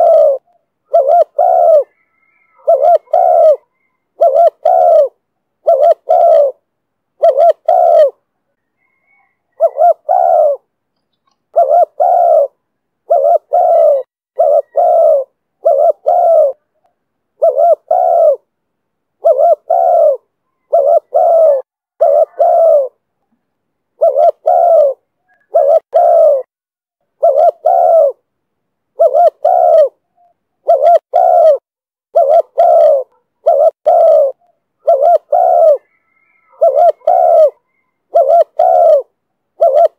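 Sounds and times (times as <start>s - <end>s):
dove cooing: 0.0s - 6.6s, 7.2s - 18.5s, 19.2s - 23.0s, 24.0s - 26.5s, 27.1s - 28.3s, 29.0s - 39.9s.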